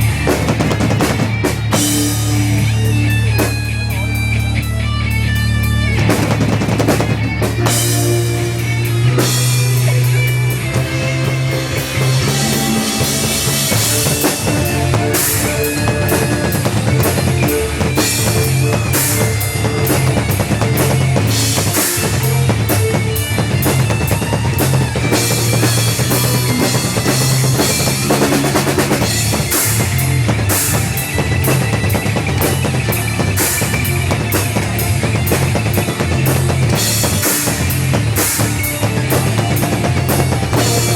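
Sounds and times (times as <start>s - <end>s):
bass line: 0.0s - 40.9s
drum kit beat: 0.0s - 40.9s
rock music: 0.0s - 40.9s.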